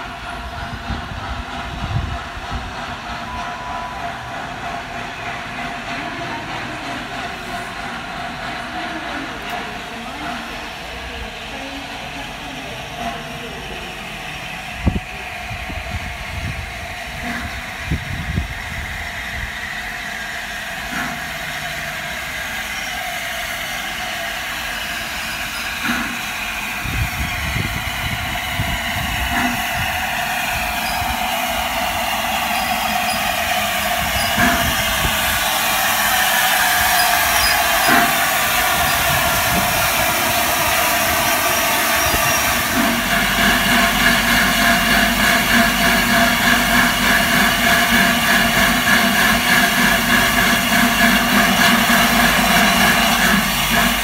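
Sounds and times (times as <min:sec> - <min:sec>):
steam hissing: 0:00.0 - 0:54.0
steam locomotive approaching: 0:00.0 - 0:54.0.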